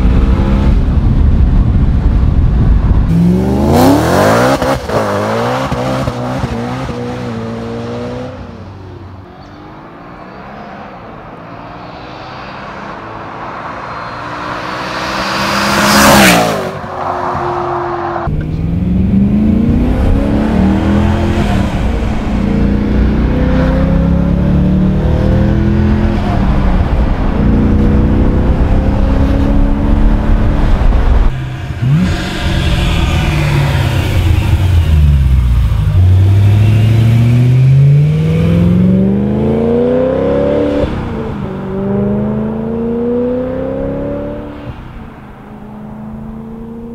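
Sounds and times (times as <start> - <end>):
car engine passing: 3.1 - 46.9.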